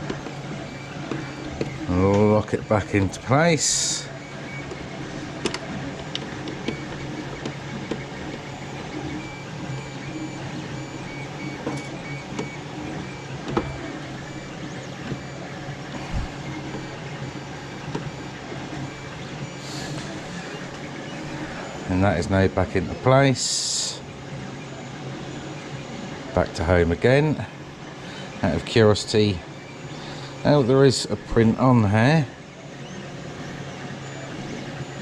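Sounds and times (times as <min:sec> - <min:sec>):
stepper motor running: 0:00.0 - 0:35.0.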